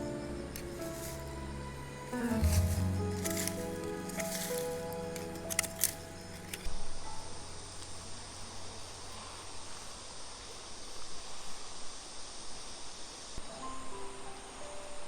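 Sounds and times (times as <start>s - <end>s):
insects chirring: 0.0s - 14.8s.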